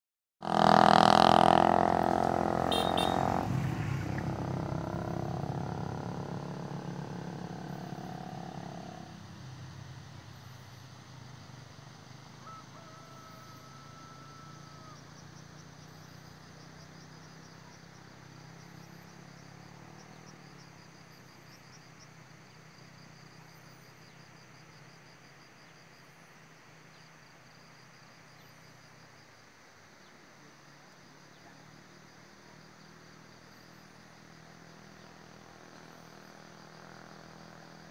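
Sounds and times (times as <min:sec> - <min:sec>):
insects chirping: 0:01.4 - 0:37.9.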